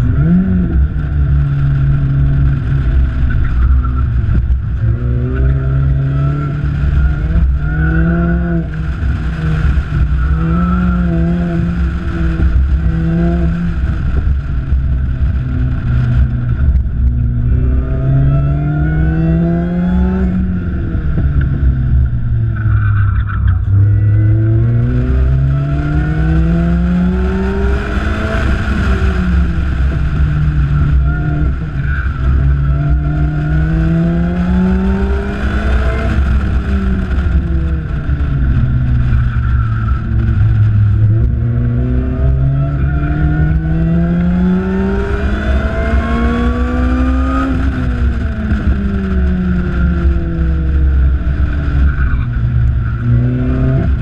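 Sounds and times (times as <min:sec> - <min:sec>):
car engine revving: 0:00.0 - 0:54.0
wind rumble on microphone: 0:00.0 - 0:54.0.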